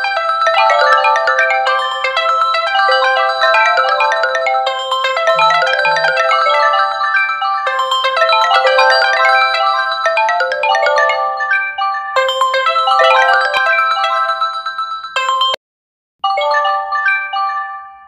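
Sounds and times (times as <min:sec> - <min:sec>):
phone ringtones ringing: 0:00.0 - 0:15.6, 0:16.2 - 0:18.0.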